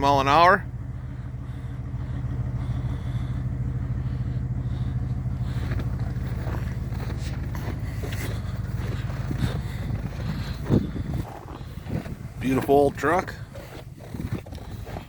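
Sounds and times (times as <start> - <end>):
diesel truck engine idling: 0.0 - 15.0
crunching and scraping: 1.2 - 15.0.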